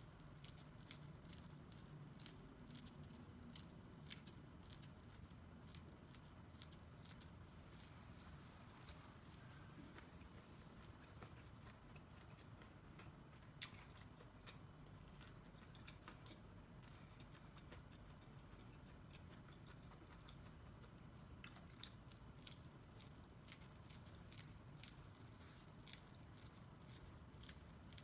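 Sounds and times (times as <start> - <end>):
low steady hum: 0.0 - 28.0
person chewing corn on the cob: 0.0 - 28.0.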